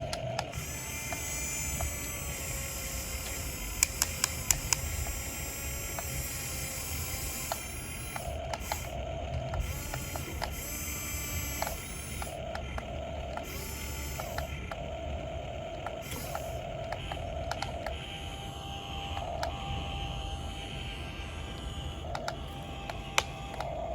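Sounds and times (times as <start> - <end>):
sharp clicks: 0.0 - 18.0, 19.1 - 19.6, 21.6 - 23.9
small electric motors whining: 0.0 - 23.9.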